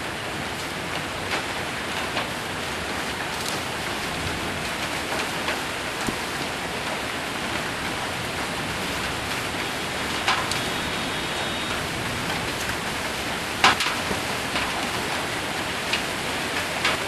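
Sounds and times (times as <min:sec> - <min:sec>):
rain and hail on metal roof: 0:00.0 - 0:17.0.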